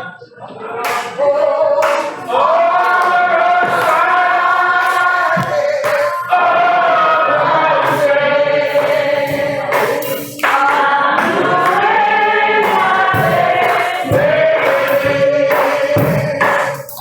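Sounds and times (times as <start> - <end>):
congregation and choir singing: 0.0 - 17.0.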